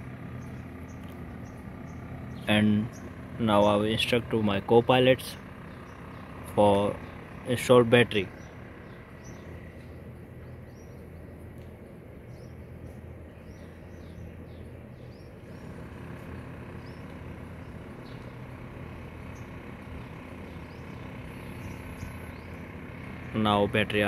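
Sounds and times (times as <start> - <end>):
low mechanical hum: 0.0 - 24.0
small birds chirping: 0.0 - 24.0.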